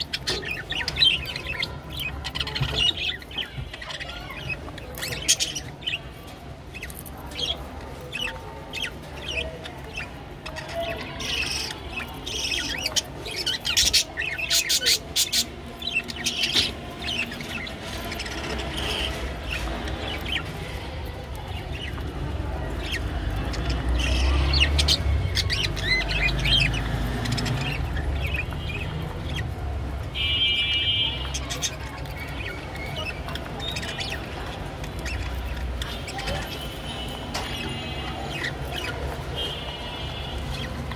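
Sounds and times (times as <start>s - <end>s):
budgerigars chirping: 0.0s - 20.6s, 21.4s - 29.6s, 30.5s - 40.9s.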